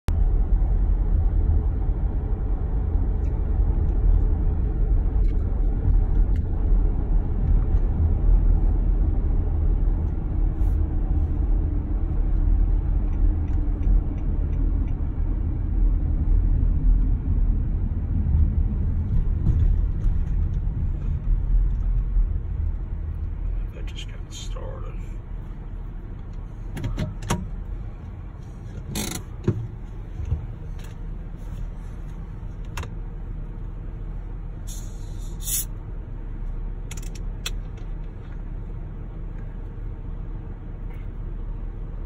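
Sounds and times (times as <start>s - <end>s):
car road and engine rumble: 0.0s - 42.0s.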